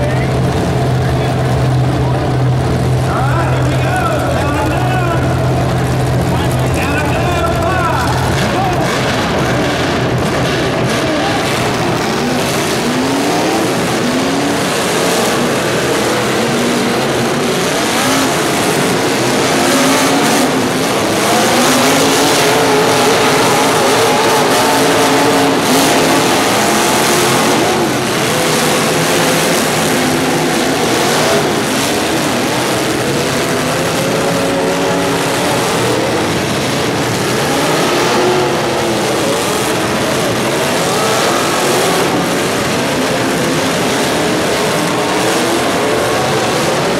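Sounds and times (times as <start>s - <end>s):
loud steady din: 0.0s - 46.9s
vehicle engines revving: 0.0s - 46.9s.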